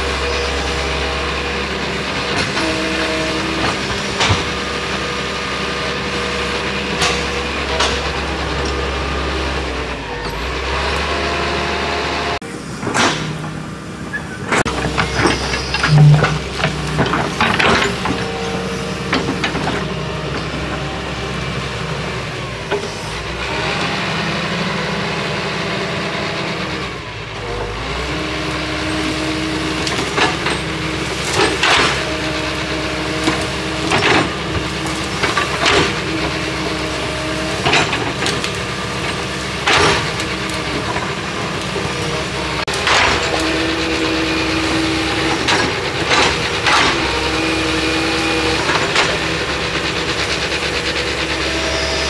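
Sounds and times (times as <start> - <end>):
hydraulic whine: 0.0 - 24.7, 26.6 - 52.0
excavator engine running: 0.0 - 52.0.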